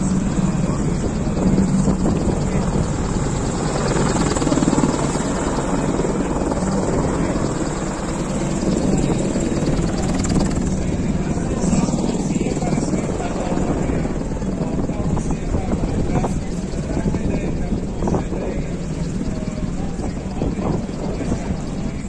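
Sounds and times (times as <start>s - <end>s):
helicopter rotor chop: 0.0s - 22.0s.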